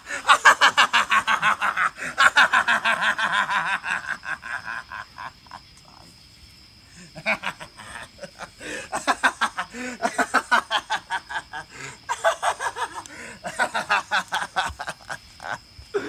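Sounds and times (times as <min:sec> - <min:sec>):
man laughing hard: 0:00.0 - 0:05.6, 0:07.0 - 0:16.0.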